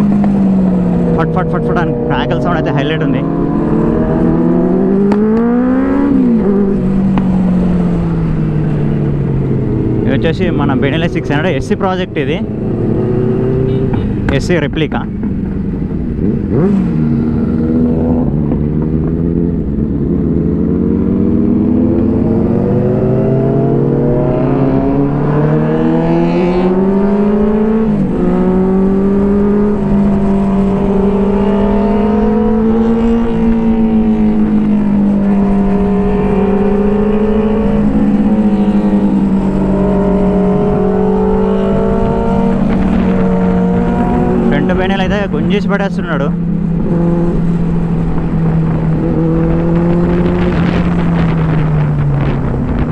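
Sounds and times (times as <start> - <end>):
motorcycle engine accelerating hard: 0.0 - 52.9.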